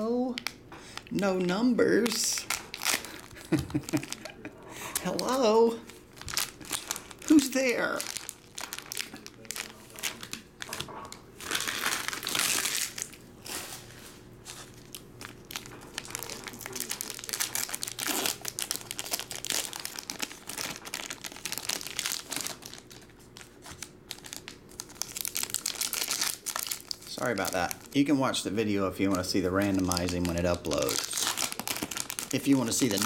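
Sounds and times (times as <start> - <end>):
plastic wrappers crinkling: 0.0 - 33.0.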